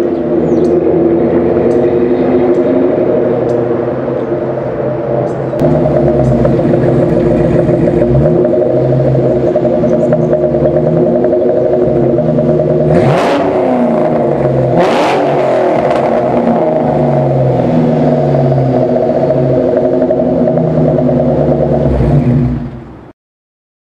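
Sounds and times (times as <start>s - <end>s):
car engine idling: 0.0s - 23.1s
engine throttle blips: 0.0s - 23.1s.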